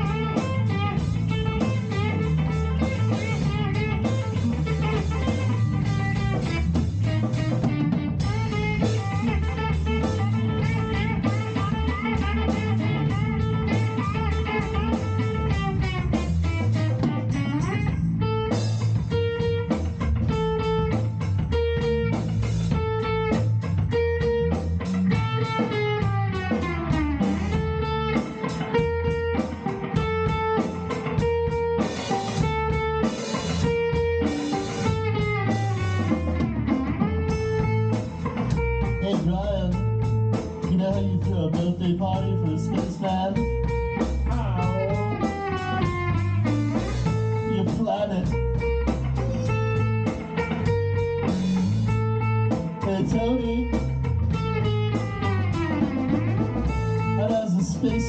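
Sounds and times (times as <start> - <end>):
band playing instrumental: 0.0 - 58.0
electric guitar: 0.0 - 58.0.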